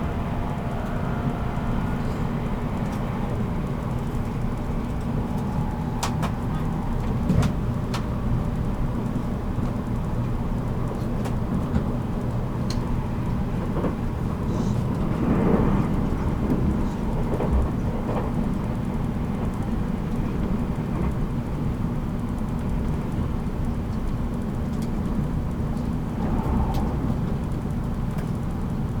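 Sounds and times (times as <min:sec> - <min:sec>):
electric train rumble: 0:00.0 - 0:29.0.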